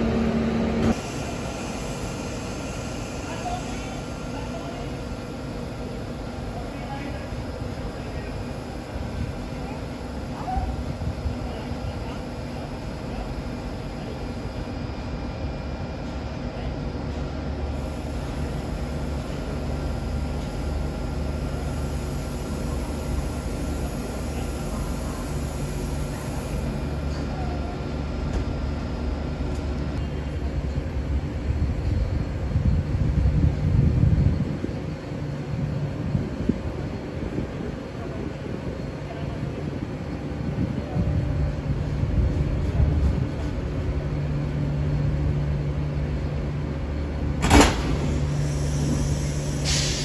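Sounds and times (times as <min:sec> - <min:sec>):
train electrical hum: 0:00.0 - 0:50.0.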